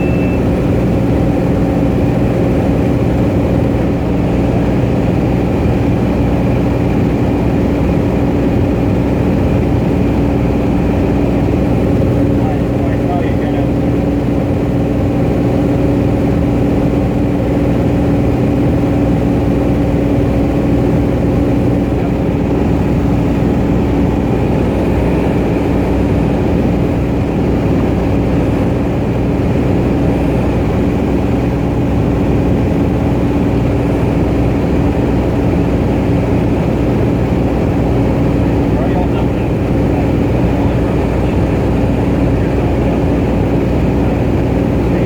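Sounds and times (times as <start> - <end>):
propeller aircraft engine drone: 0.0 - 45.0.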